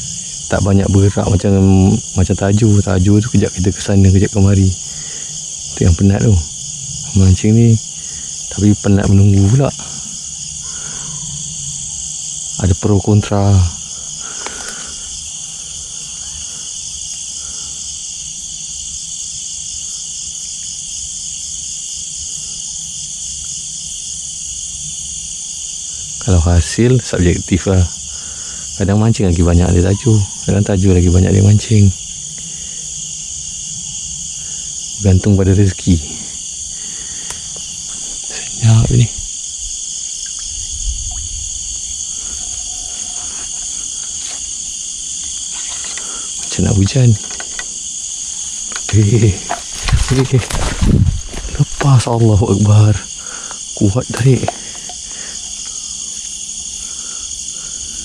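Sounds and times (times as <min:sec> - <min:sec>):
crickets and night insects trilling: 0:00.0 - 0:58.0.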